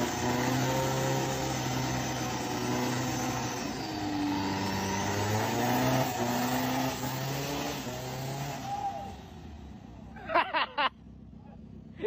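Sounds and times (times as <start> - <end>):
off-road vehicle engine revving: 0.0 - 10.5.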